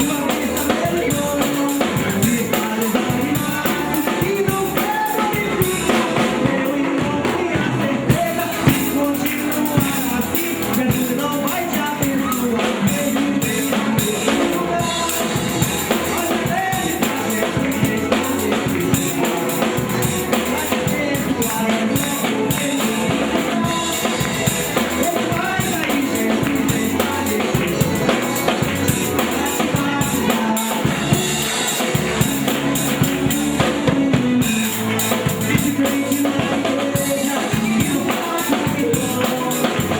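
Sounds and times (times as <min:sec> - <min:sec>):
bass guitar: 0:00.0 - 0:39.9
drum kit beat: 0:00.0 - 0:39.9
electric guitar: 0:00.0 - 0:39.9
keyboard: 0:00.0 - 0:39.9.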